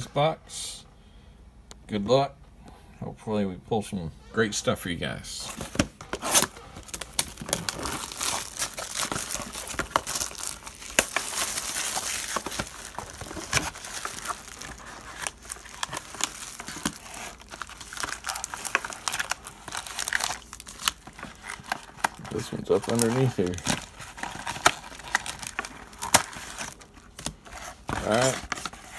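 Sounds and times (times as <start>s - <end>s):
cardboard handling: 5.4s - 28.9s
plastic shrink-wrap crinkling: 5.5s - 28.9s.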